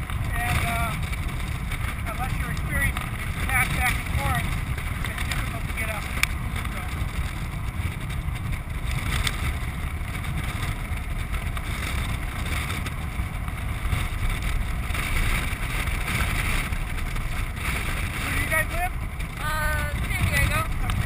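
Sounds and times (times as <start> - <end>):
wheels rolling on hard ground: 0.0 - 21.0
wind buffeting microphone: 0.0 - 21.0.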